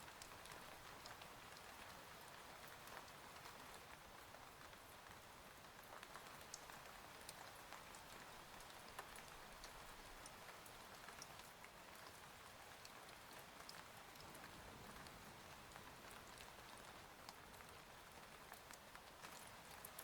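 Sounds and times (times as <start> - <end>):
raindrops ticking on surface: 0.0 - 20.0
soft rain: 0.0 - 20.0.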